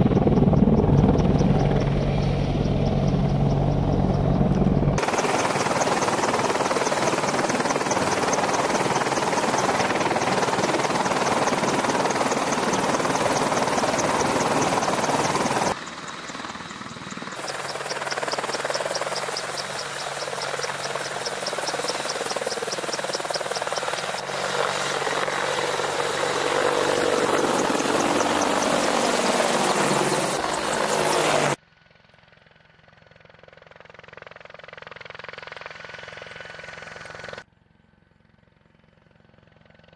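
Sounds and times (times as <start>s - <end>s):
helicopter rotors and engines: 0.0s - 37.5s, 38.1s - 39.9s.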